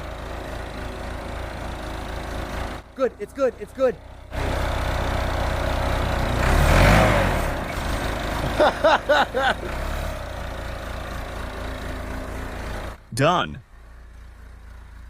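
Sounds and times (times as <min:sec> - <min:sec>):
backhoe engine under load: 0:00.0 - 0:15.0.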